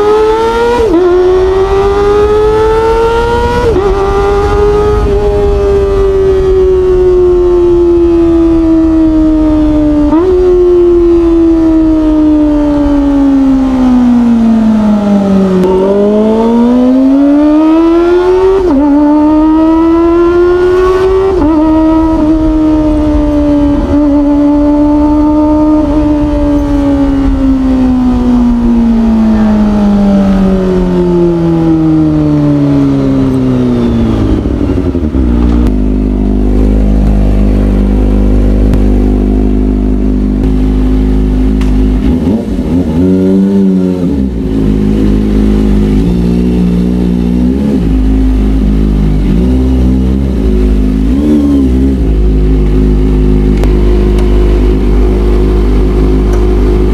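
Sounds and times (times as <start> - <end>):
motorcycle engine at high revs: 0.0 - 56.9.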